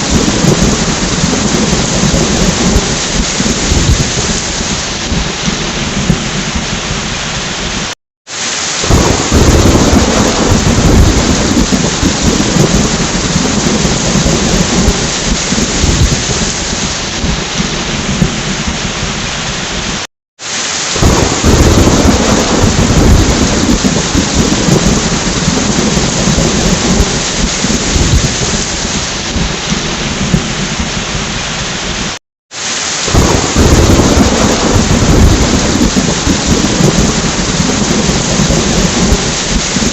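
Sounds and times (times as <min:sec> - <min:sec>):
rolling thunder: 0:00.0 - 0:07.9, 0:08.8 - 0:20.0, 0:21.0 - 0:32.2, 0:33.0 - 0:39.9
heavy rain: 0:00.0 - 0:39.9.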